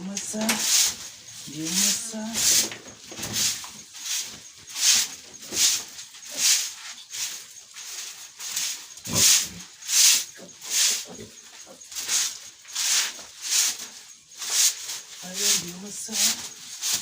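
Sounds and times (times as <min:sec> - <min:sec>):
broom sweeping sawdust: 0:00.2 - 0:17.0.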